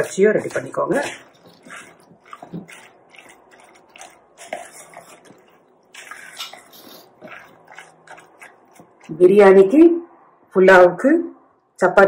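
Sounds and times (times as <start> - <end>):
spoon stirring wet food in bowl: 0.0 - 9.9.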